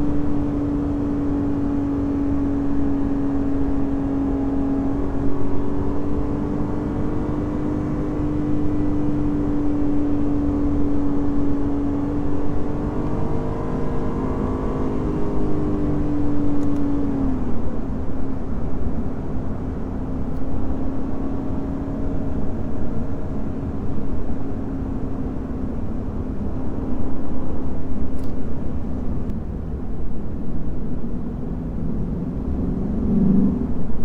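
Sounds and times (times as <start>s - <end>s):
car engine cruising: 0.0s - 34.0s.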